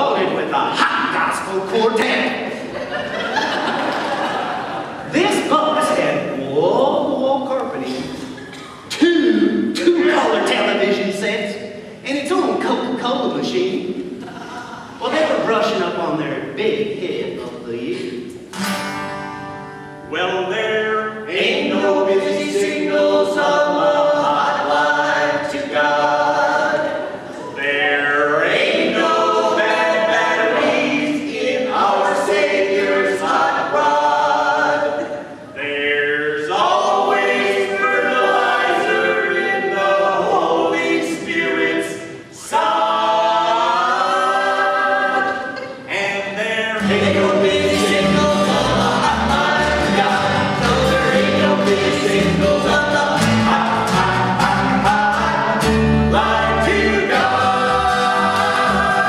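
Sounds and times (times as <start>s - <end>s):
gospel quartet singing in harmony: 0.0s - 16.0s, 20.1s - 59.0s.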